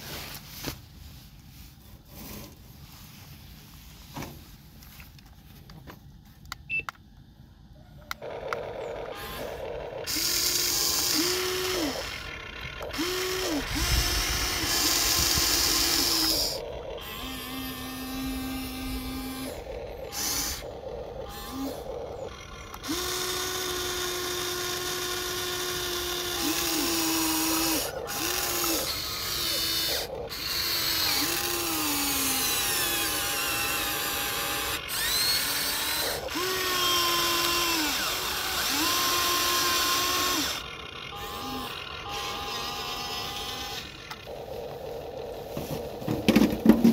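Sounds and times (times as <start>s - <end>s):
toy excavator motors whirring: 1.3s - 2.8s, 4.6s - 46.9s.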